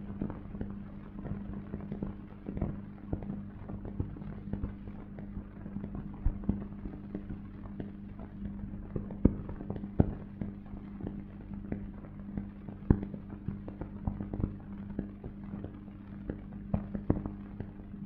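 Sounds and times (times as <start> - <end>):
crackles and pops: 0.0 - 18.0.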